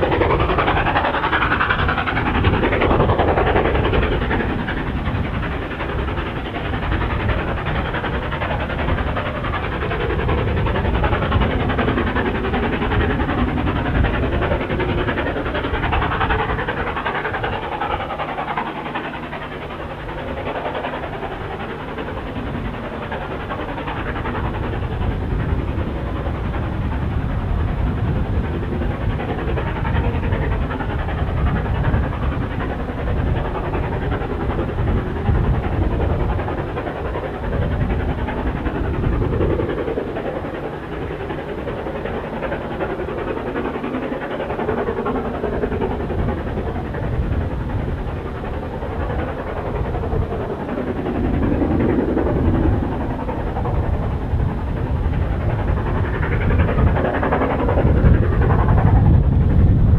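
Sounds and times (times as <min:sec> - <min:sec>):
steam locomotive rumble: 0:00.0 - 0:59.9.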